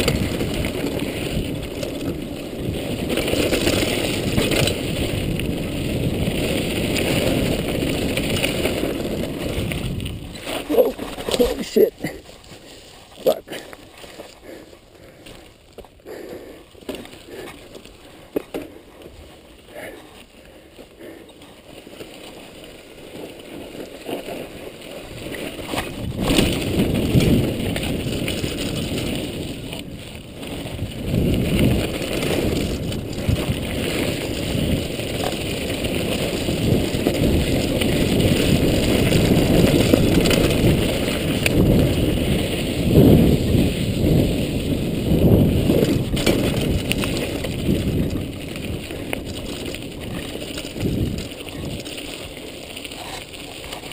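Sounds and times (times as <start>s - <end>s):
wind buffeting camera: 0.0s - 19.7s, 21.6s - 53.9s
tyres rumbling over dirt trail: 0.0s - 53.9s.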